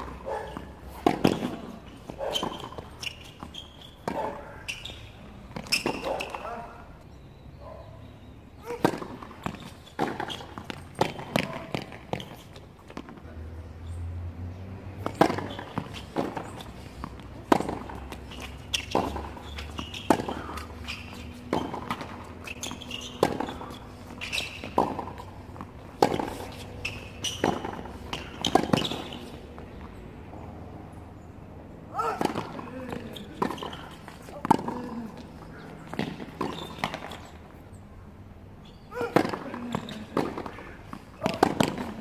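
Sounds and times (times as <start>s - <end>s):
racket striking tennis ball: 0.0s - 6.5s, 8.6s - 13.2s, 14.9s - 29.7s, 32.0s - 37.4s, 38.8s - 42.0s
tennis ball bouncing on court: 0.0s - 6.7s, 8.6s - 13.2s, 14.9s - 30.3s, 32.0s - 37.6s, 38.8s - 42.0s.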